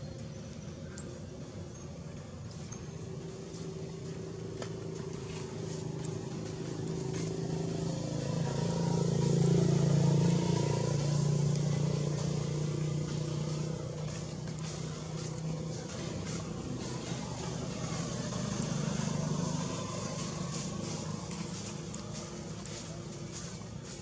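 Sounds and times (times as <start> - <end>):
vehicle engine passing by: 3.0 - 24.0.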